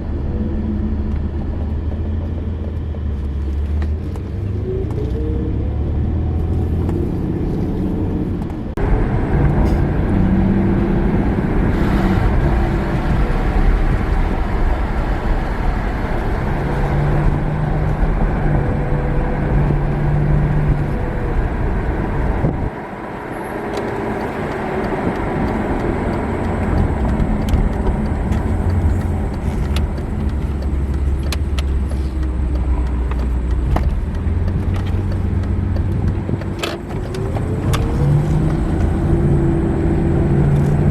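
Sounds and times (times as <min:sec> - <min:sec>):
car engine running: 0:00.0 - 0:40.9
road noise: 0:00.0 - 0:40.9.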